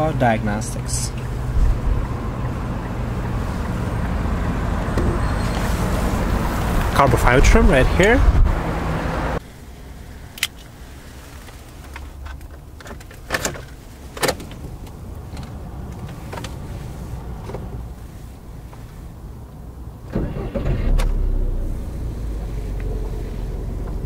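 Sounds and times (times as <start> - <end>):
low steady car cabin hum: 0.0 - 8.4, 9.4 - 24.0.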